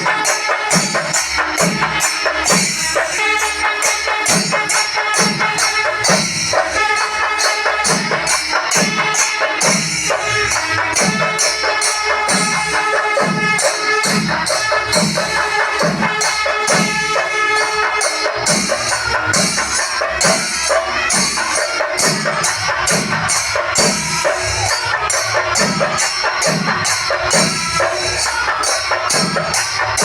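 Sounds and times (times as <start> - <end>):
drum ensemble driving rhythm: 0.0 - 30.0
hand cymbals: 0.0 - 30.0.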